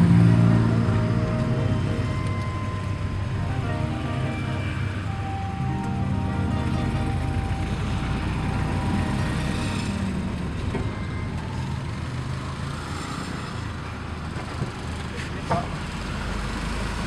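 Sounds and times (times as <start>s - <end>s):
road noise inside cabin: 0.0s - 17.0s
vehicle engine rumble: 0.0s - 17.0s.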